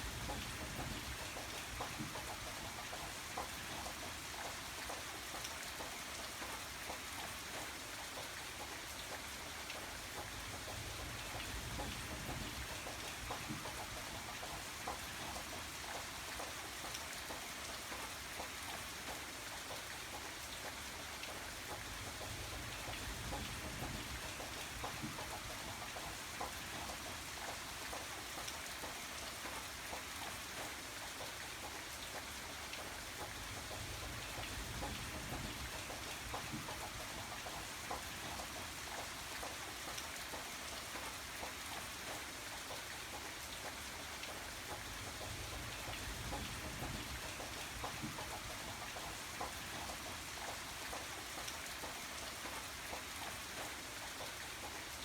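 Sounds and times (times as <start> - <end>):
rain falling: 0.0 - 55.0
raindrops pattering on a surface: 0.0 - 55.0.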